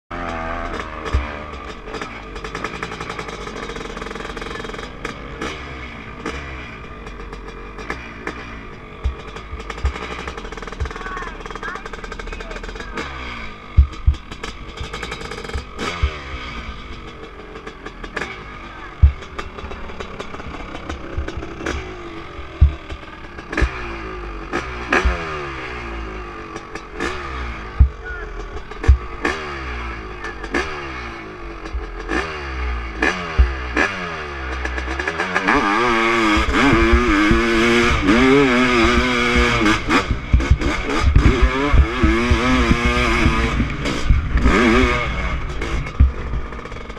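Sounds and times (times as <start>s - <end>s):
dirt bike engine revving: 0.1s - 46.9s
sharp engine cracks: 0.1s - 46.9s.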